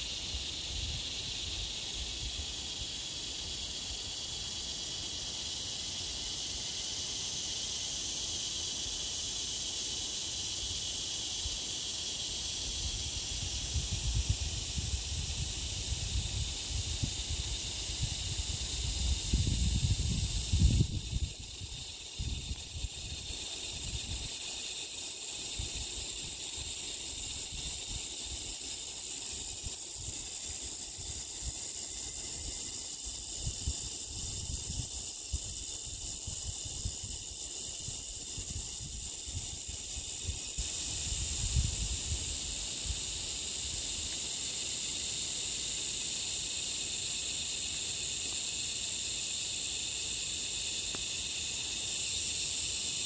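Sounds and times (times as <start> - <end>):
insect chorus: 0.0 - 53.0.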